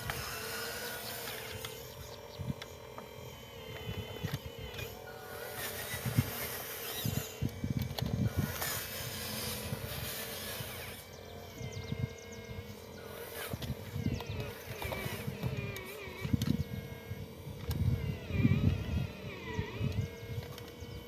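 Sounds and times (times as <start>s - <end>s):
electric motor whine: 0.0s - 21.0s.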